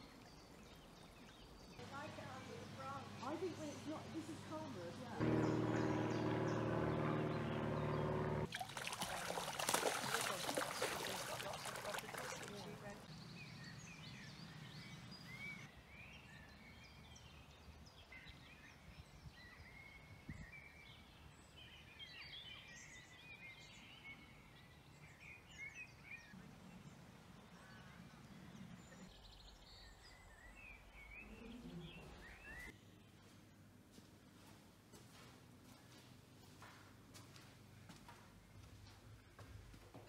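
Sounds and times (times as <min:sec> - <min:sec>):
small birds chirping: 0:00.0 - 0:08.5, 0:09.3 - 0:33.5.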